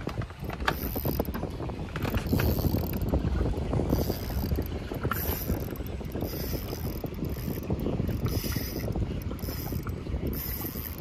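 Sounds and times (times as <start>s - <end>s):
wind on microphone: 0.0s - 11.0s
fishing reel clicking: 0.4s - 1.4s, 2.0s - 11.0s.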